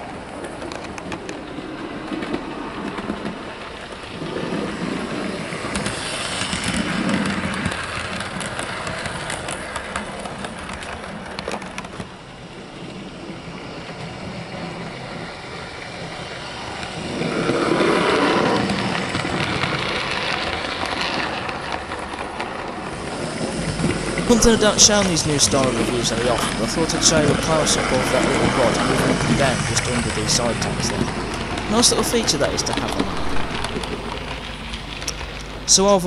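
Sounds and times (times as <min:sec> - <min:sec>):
wheels clicking over rail joints: 0:00.0 - 0:35.9
model train motor hum: 0:04.2 - 0:11.6, 0:12.6 - 0:35.8.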